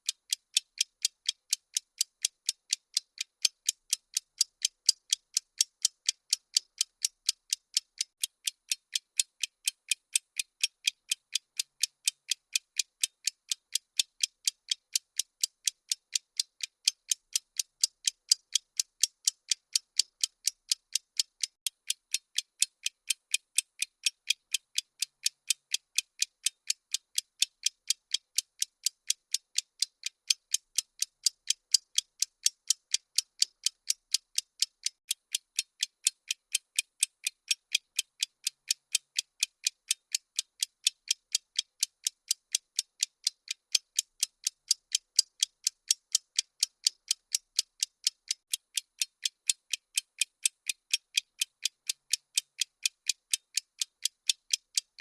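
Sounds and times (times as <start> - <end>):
bomb timer ticking: 0.0 - 55.0.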